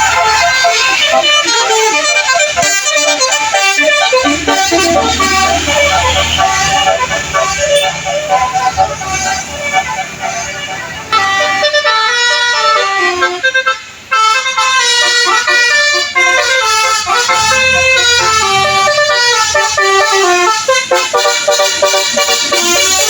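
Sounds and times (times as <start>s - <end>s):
bus horn playing a tune: 0.0s - 23.0s.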